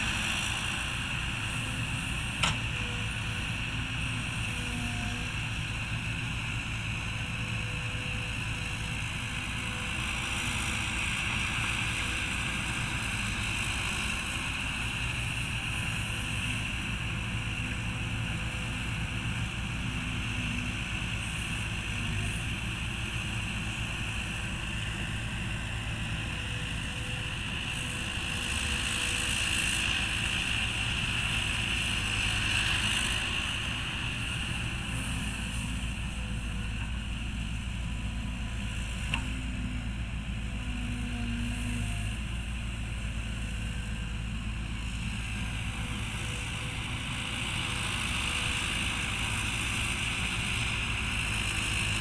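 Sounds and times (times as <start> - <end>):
excavator diesel engine: 0.0 - 52.0.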